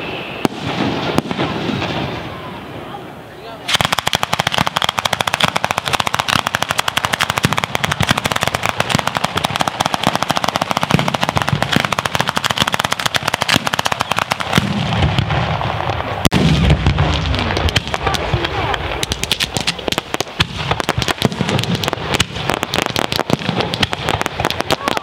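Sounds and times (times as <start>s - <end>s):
firecrackers banging rapidly: 0.0s - 2.3s, 3.7s - 25.0s.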